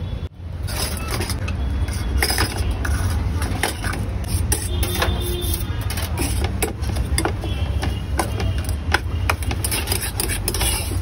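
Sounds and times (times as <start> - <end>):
spoon scraping steel bowl: 0.6 - 11.0.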